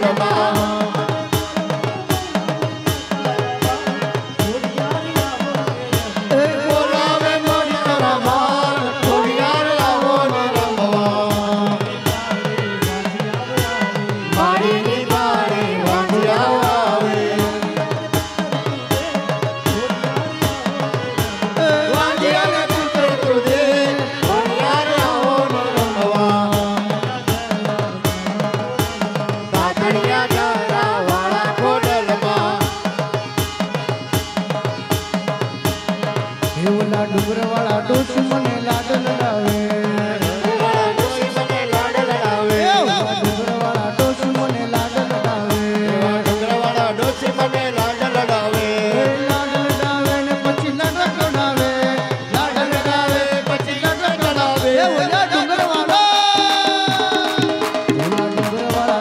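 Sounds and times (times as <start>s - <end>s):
woman singing: 0.0s - 33.3s, 36.6s - 59.0s
hand drum beating: 0.0s - 59.0s
harmonium held notes: 0.0s - 59.0s.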